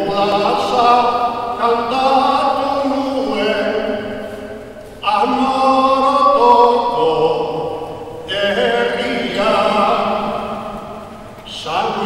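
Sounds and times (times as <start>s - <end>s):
slow singing with held notes: 0.0s - 12.0s.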